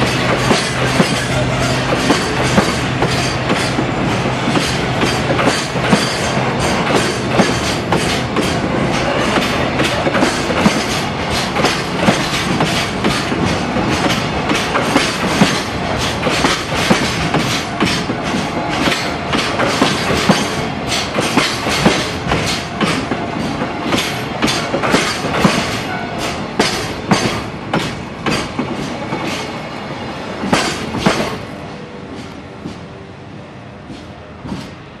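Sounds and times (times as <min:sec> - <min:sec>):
wheels clacking over rail joints: 0:00.0 - 0:29.5, 0:30.4 - 0:31.5
train rumble: 0:00.0 - 0:35.0.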